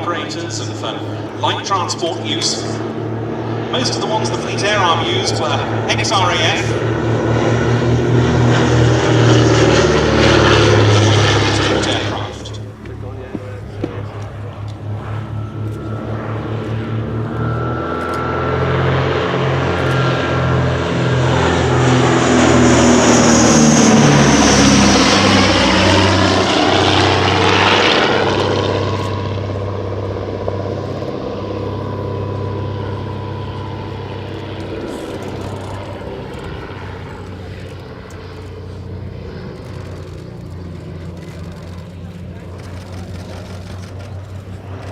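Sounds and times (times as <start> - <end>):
propeller aircraft flying past: 0.0 - 44.9.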